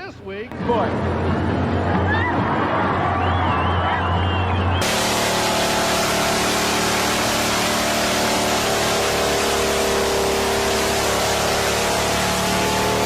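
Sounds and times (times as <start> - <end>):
monster truck engines running: 0.5 - 13.0.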